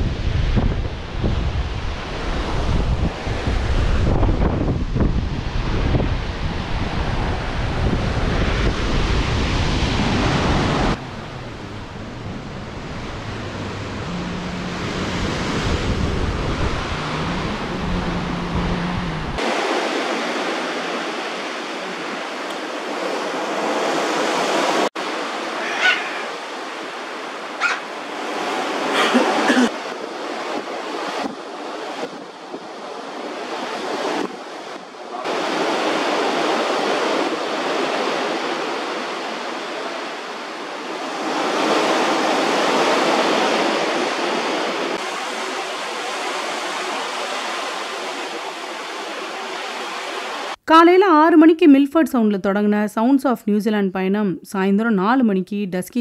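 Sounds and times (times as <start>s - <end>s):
rushing sea water: 0.0s - 50.6s
wind blowing across microphone: 0.0s - 50.6s.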